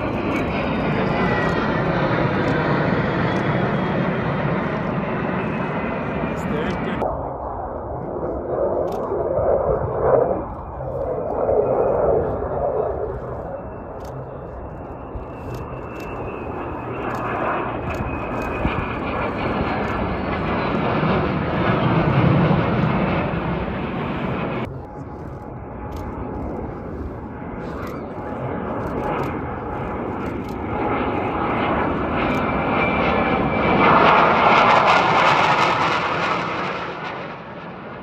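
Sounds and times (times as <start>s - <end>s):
faint gliding whine: 0.0s - 38.0s
fighter jets flying past: 0.0s - 38.0s.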